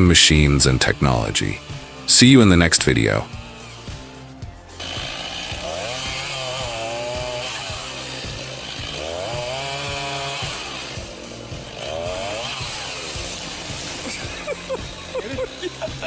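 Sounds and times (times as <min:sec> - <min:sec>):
chainsaw engine revving: 0:00.0 - 0:16.0.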